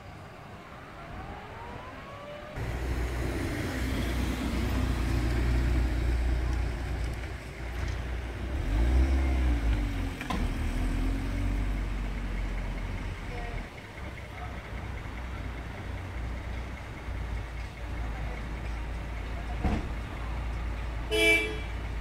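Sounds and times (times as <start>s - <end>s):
car engine running: 2.6s - 22.0s.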